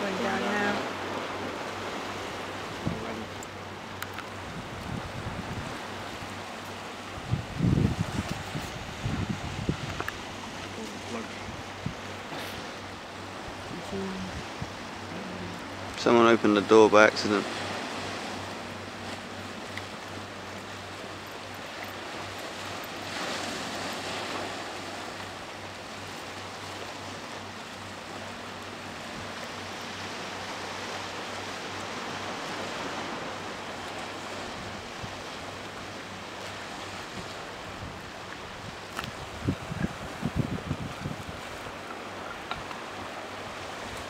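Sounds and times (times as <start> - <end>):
sea noise: 0.0 - 44.0
wind: 0.0 - 44.0.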